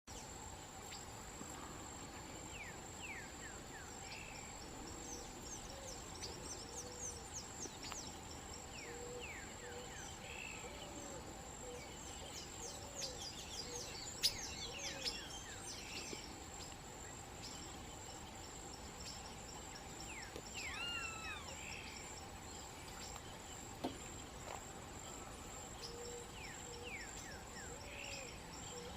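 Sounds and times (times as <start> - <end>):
high insect drone: 0.1 - 28.9
birds chirping: 0.9 - 28.9.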